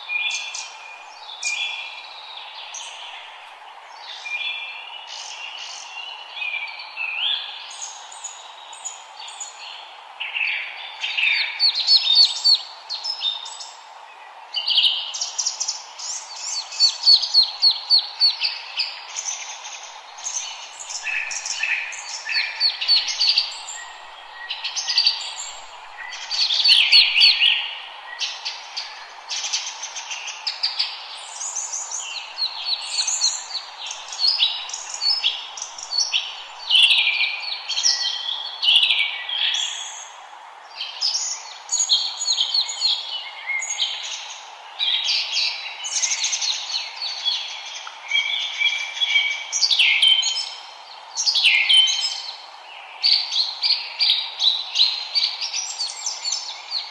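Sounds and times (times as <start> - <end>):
songbirds singing: 0.0 - 56.9
steady low hiss: 0.0 - 56.9.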